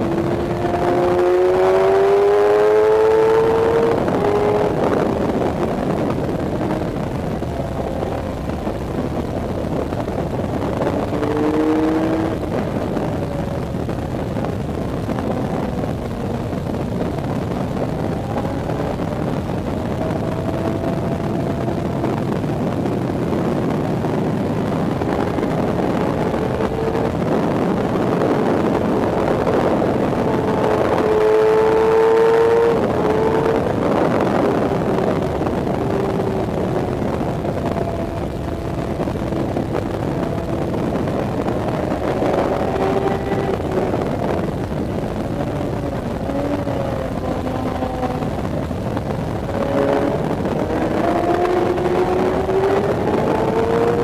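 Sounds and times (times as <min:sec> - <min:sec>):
motorcycle engine revving: 0:00.0 - 0:54.0
wind rushing: 0:00.0 - 0:54.0.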